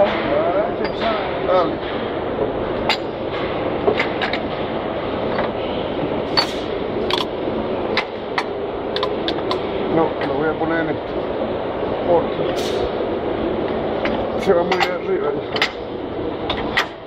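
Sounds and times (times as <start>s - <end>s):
workshop noise: 0.0s - 17.0s.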